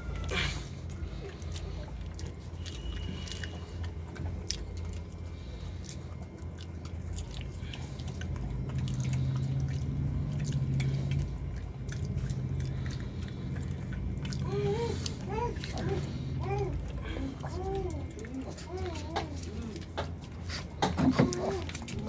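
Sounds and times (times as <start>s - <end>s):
dog crunching crisp food: 0.0s - 22.0s
steady low hum: 0.0s - 22.0s.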